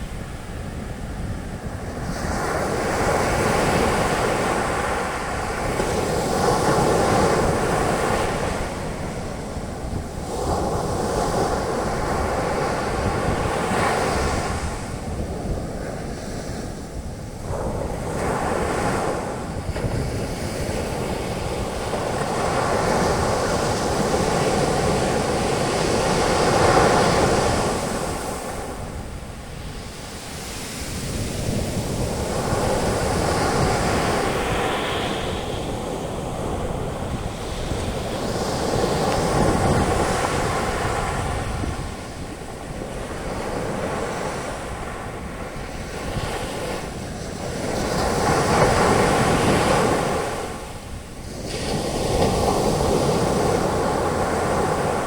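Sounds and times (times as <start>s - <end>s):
ocean waves breaking on beach: 0.0s - 55.0s
wind on microphone: 0.0s - 55.0s.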